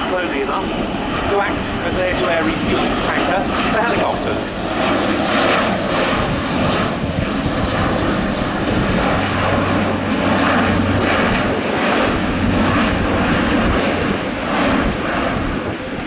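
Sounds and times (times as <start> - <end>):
turboprop aircraft flying past: 0.0 - 16.0.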